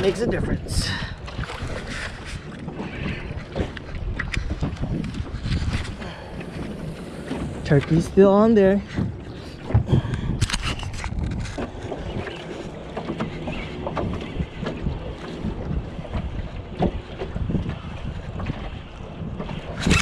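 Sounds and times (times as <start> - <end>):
water lapping against boat hull: 0.0 - 20.0
wind buffeting microphone: 0.0 - 20.0.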